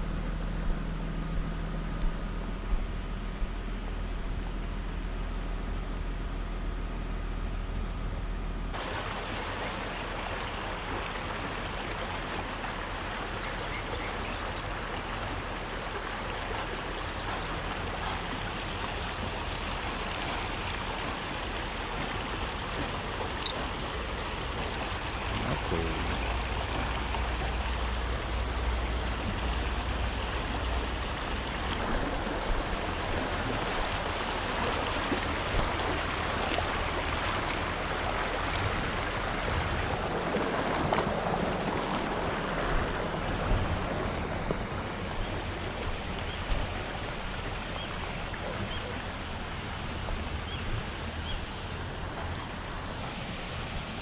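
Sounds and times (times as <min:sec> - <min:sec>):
stream rushing over stones: 0:08.7 - 0:54.0.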